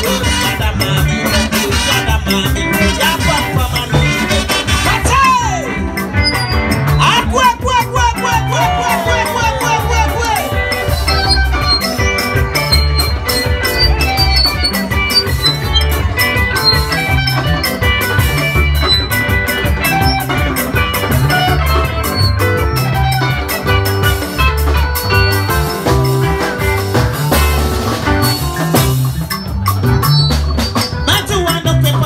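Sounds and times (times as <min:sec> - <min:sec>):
bass guitar: 0:00.0 - 0:32.0
drum kit beat: 0:00.0 - 0:32.0.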